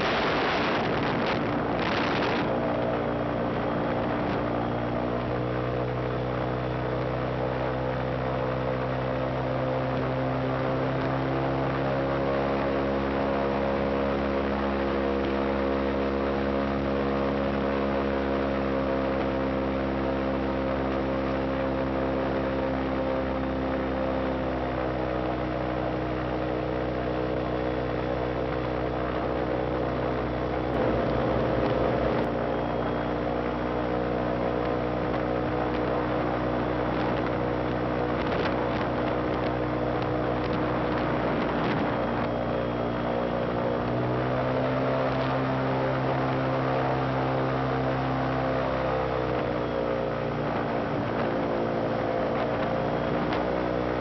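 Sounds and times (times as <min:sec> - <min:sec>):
airboat engine and propeller: 0:00.0 - 0:54.0.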